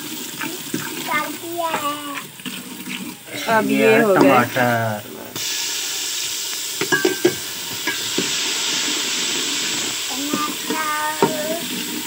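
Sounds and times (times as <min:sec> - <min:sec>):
tomatoes sizzling in a pot: 0:00.0 - 0:12.0.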